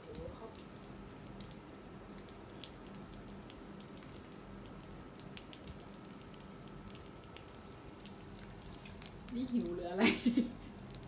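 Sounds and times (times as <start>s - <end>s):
fat sizzling and popping: 0.0s - 11.0s
steady low hum: 0.0s - 11.0s.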